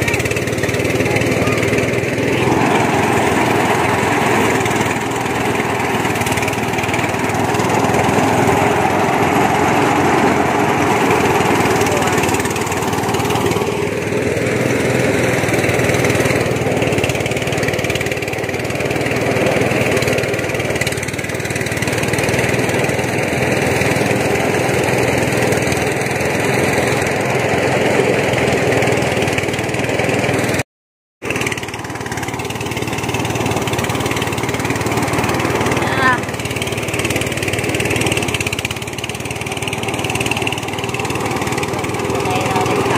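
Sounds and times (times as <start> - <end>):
small engine running: 0.0 - 30.6, 31.2 - 42.9.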